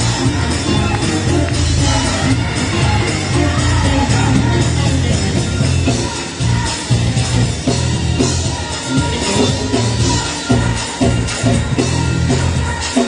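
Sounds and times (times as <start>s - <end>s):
drums beat: 0.0s - 13.0s
gospel choir singing: 0.0s - 13.0s
heavy bass: 0.0s - 13.0s
keyboard: 0.0s - 13.0s.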